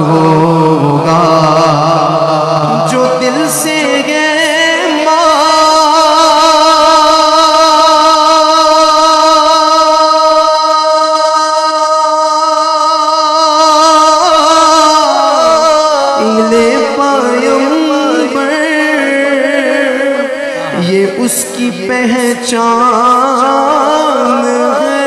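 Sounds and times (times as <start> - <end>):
man singing long note: 0.0 - 25.0.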